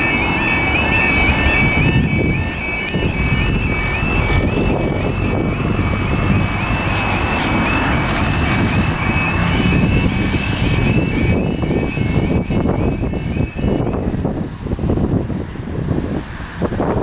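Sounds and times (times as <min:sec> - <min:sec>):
warbling electronic warning alarm: 0:00.0 - 0:15.6
vehicle low rumble: 0:00.0 - 0:17.0
wind buffeting microphone: 0:00.0 - 0:17.0.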